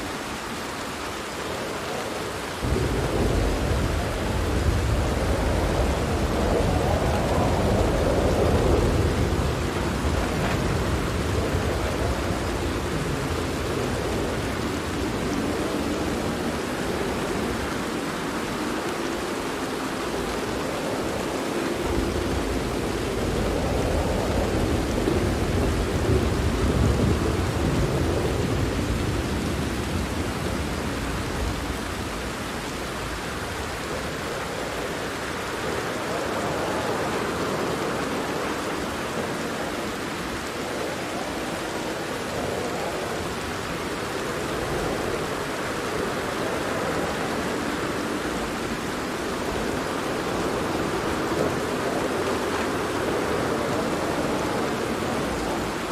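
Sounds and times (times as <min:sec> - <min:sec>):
heavy rain on a tent: 0:00.0 - 0:55.9
low rolling thunder: 0:02.3 - 0:55.9.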